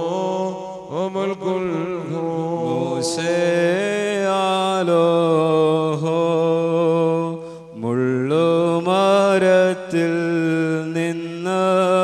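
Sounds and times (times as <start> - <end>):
man chanting a hymn: 0.0 - 12.0.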